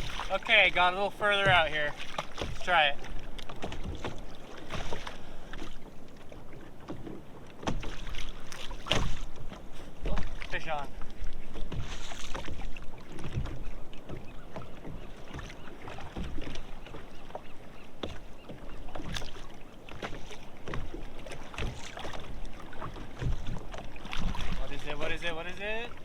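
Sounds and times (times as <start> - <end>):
water sounds: 0.0 - 26.0.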